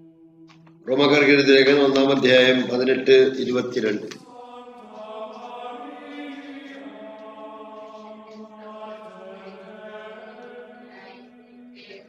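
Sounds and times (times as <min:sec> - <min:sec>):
slow chanting voices: 0:00.0 - 0:03.2, 0:04.0 - 0:12.0.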